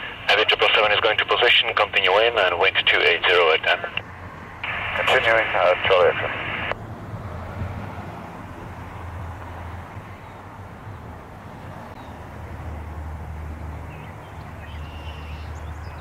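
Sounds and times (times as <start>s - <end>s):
distant jet engines rumbling: 0.0s - 16.0s.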